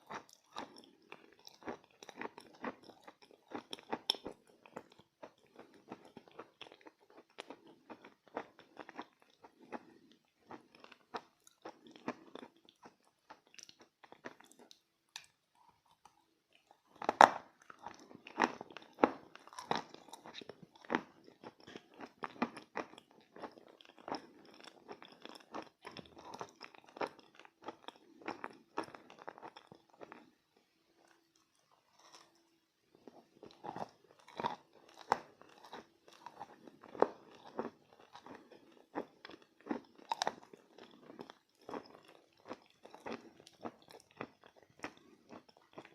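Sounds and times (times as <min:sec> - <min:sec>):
crunchy chewing of chalk: 0:00.0 - 0:30.4, 0:31.0 - 0:45.9.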